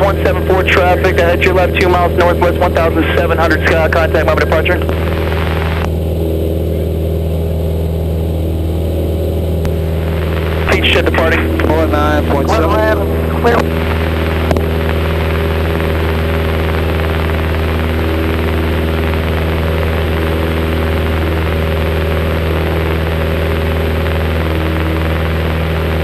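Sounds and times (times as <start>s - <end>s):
airplane engine drone in cabin: 0.0s - 26.0s.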